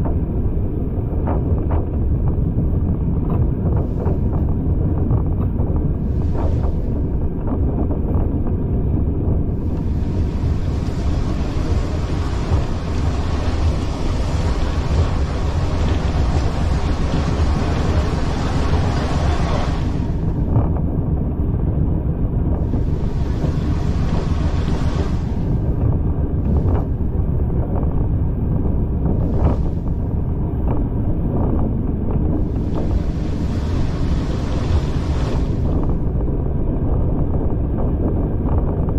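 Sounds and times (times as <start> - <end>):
train carriage rumble: 0.0 - 38.9
wind rushing over microphone: 0.0 - 38.9.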